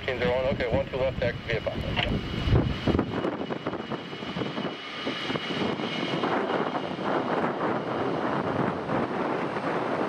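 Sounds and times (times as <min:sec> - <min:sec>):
aircraft engine rush: 0:00.0 - 0:10.0.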